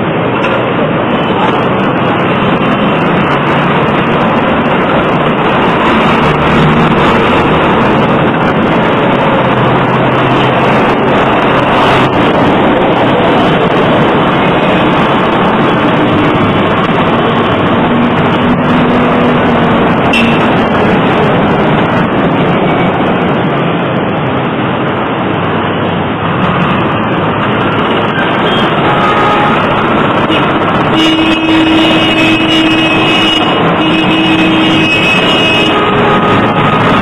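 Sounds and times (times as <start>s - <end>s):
busy city traffic: 0.0s - 37.0s.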